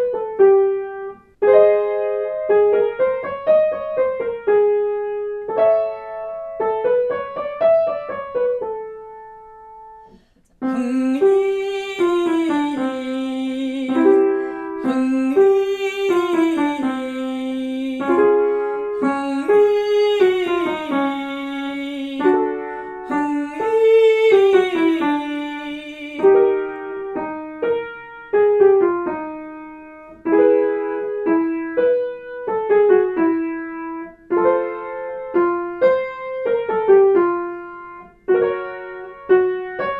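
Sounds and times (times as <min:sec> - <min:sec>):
piano playing descending scales: 0:00.0 - 0:39.9.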